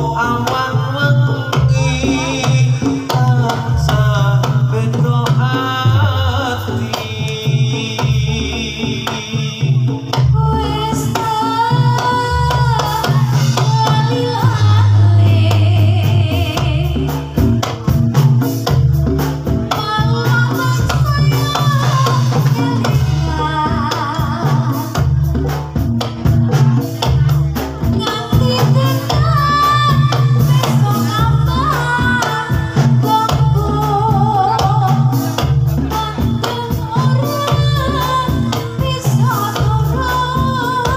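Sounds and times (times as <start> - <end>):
steady drum rhythm: 0.0 - 40.9.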